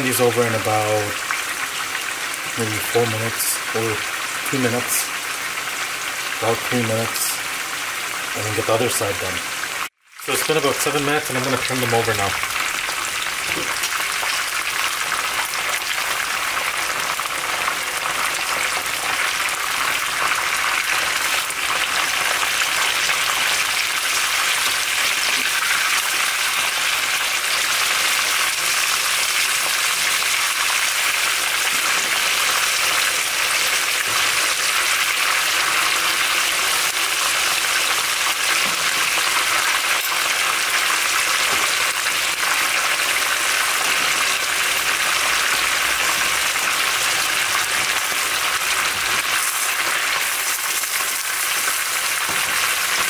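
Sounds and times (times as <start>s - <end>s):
chicken frying in hot oil: 0.0s - 53.0s.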